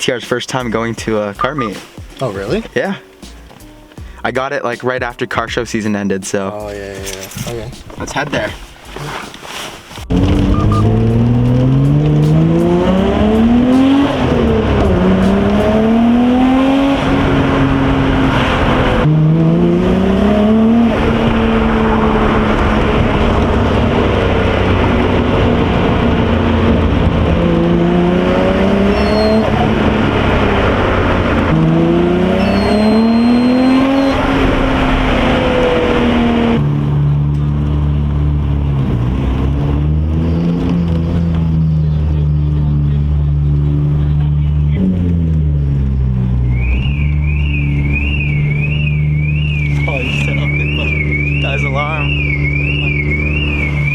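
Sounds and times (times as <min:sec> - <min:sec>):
car engine accelerating hard: 0:10.0 - 0:53.9.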